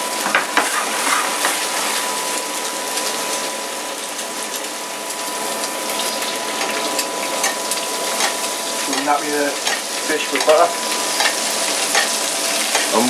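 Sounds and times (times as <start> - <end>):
fish and butter sizzling: 0.0 - 13.0.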